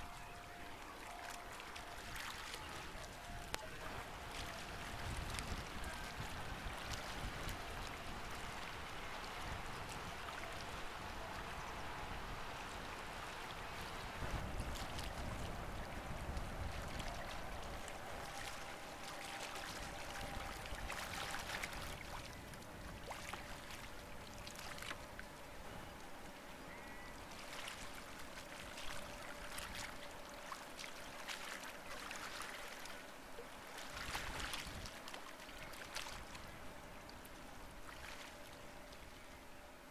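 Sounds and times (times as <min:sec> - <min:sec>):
waves lapping on rocky shore: 0:00.0 - 0:26.2, 0:27.2 - 0:38.9
faint steady hum: 0:00.0 - 0:39.9.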